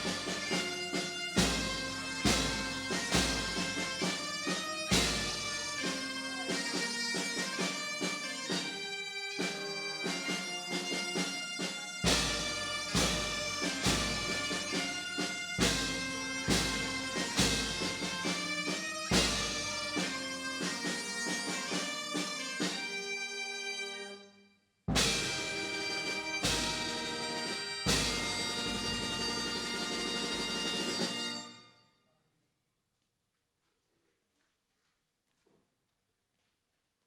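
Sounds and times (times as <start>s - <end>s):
bagpipes playing a tune: 0.0s - 24.3s, 25.0s - 31.7s.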